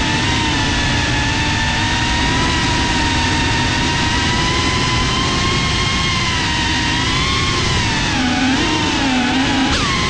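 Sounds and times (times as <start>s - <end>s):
wind rumble on microphone: 0.0s - 8.8s
drone motors whining: 0.0s - 10.0s.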